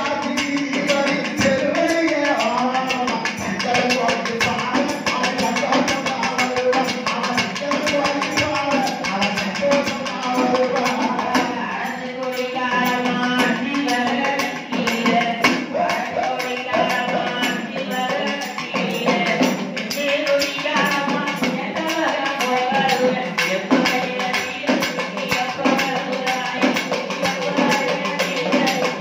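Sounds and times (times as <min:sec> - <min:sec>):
percussion beat: 0:00.0 - 0:29.0
person singing: 0:00.0 - 0:29.0.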